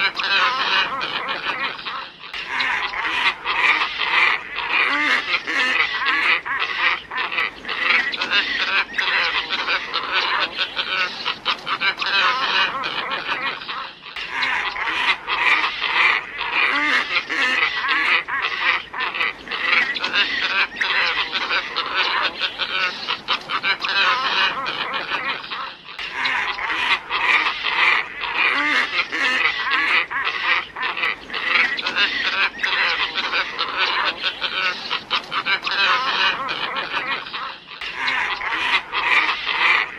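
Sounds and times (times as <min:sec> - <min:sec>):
flock of ibises calling: 0:00.0 - 0:39.9.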